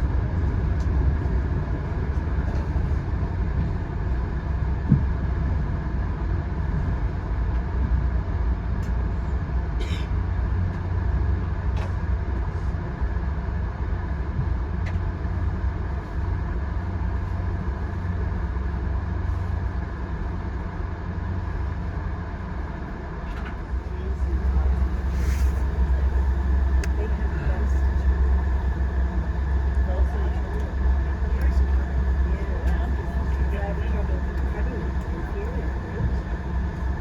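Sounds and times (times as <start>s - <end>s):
train rumbling along track: 0.0s - 37.0s.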